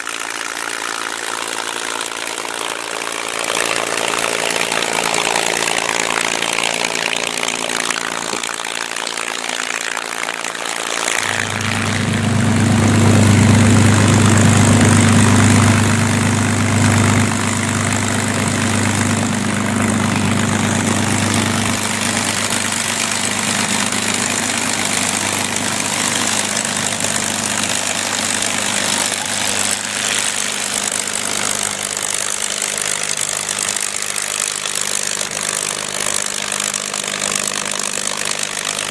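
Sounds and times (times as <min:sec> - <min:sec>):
aircraft engine running: 0:00.0 - 0:38.9
propeller turning over: 0:00.0 - 0:38.9.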